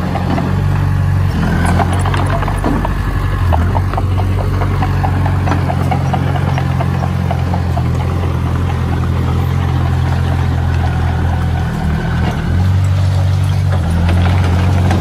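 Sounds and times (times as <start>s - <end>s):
diesel machinery engine humming: 0.0s - 15.0s.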